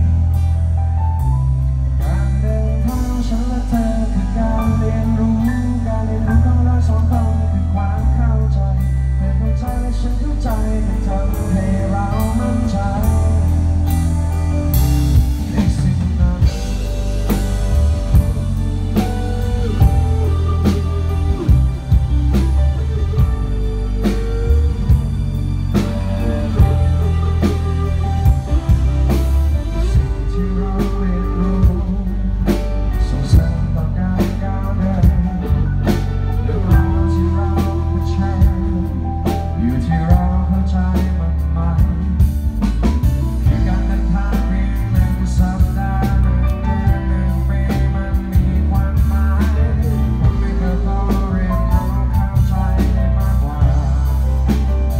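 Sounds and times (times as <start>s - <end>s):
live band playing: 0.0s - 54.9s.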